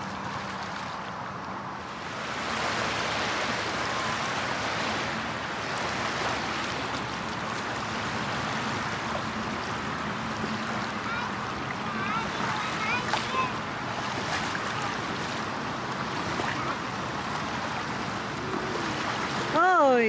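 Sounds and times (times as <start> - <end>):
distant motorboat hum: 0.0 - 20.0
river water lapping at shore: 0.0 - 20.0.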